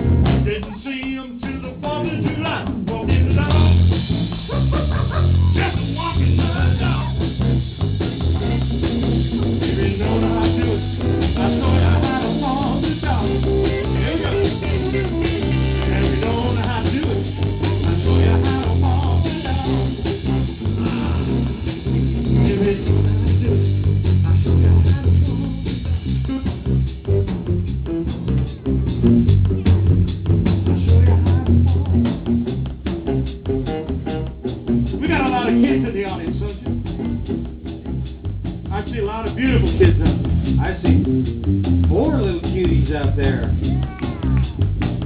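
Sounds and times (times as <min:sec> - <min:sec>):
bass line: 0:00.0 - 0:45.0
drums: 0:00.0 - 0:45.0
electric guitar: 0:00.0 - 0:45.0.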